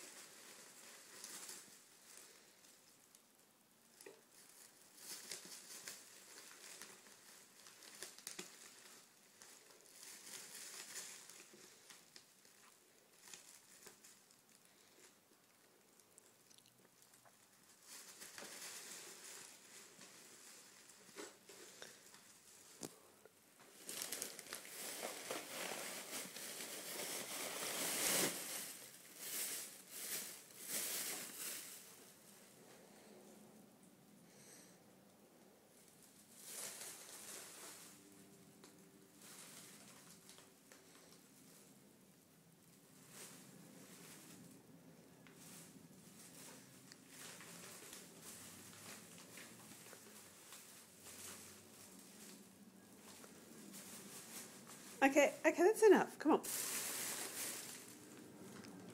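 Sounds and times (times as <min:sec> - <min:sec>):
plastic bags crinkling and rustling: 0:00.0 - 0:03.3, 0:03.9 - 0:33.1, 0:35.8 - 0:55.7, 0:56.4 - 0:58.9.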